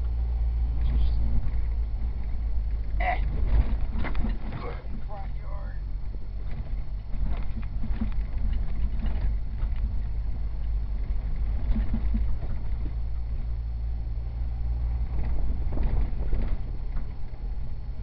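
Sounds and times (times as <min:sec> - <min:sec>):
engine running at low speed: 0:00.0 - 0:18.0
knocks and rattles: 0:00.8 - 0:05.4, 0:06.1 - 0:13.5, 0:15.0 - 0:17.7.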